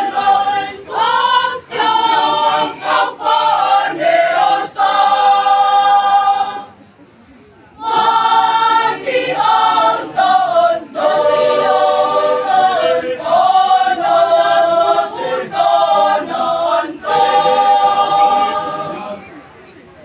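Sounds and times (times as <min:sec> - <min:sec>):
choir singing: 0:00.0 - 0:06.8, 0:07.8 - 0:19.4.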